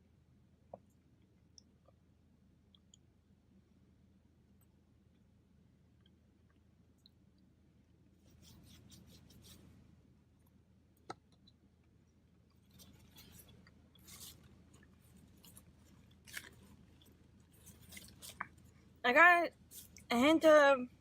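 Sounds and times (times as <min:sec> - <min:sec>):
soft crackly chewing: 0:00.7 - 0:03.2, 0:04.6 - 0:20.1.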